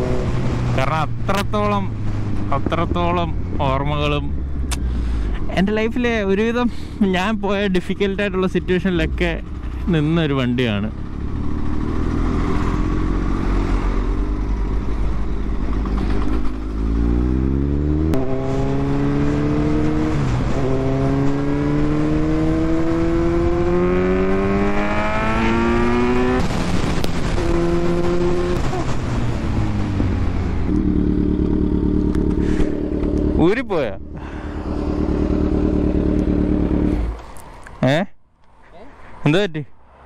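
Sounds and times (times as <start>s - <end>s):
motorcycle engine revving: 0.0s - 5.2s, 7.3s - 37.6s.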